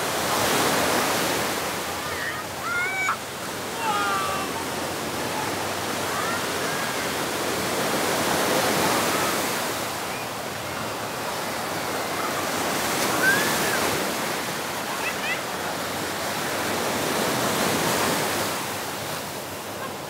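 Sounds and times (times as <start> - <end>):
waves breaking on beach: 0.0 - 20.0.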